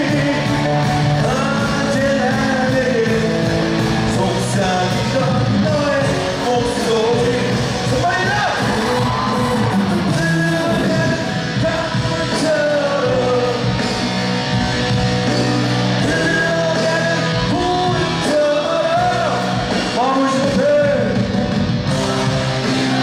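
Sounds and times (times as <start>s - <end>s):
live rock song with singer and band: 0.0s - 23.0s.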